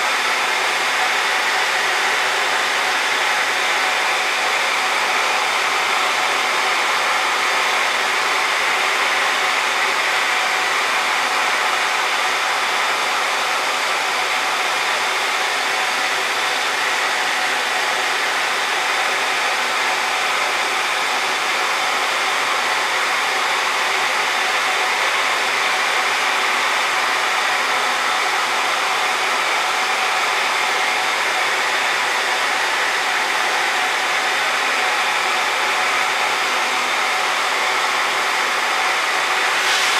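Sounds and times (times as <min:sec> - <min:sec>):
blower fan rushing air: 0:00.0 - 0:39.9.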